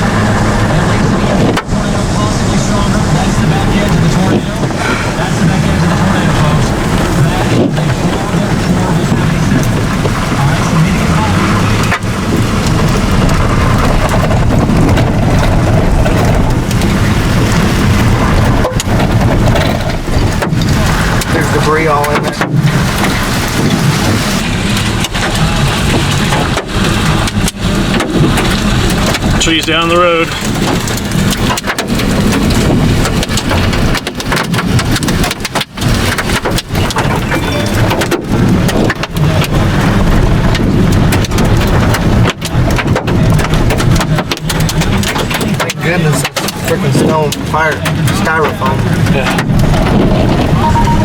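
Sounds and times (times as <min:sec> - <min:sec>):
engine and road rumble: 0:00.0 - 0:51.0
heavy rain and wind on vehicle: 0:00.0 - 0:51.0.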